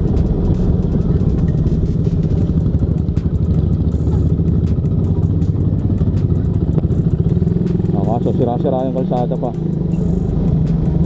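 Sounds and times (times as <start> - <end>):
motorcycle engine running: 0.0 - 11.0
motorcycle rattling: 0.0 - 11.0.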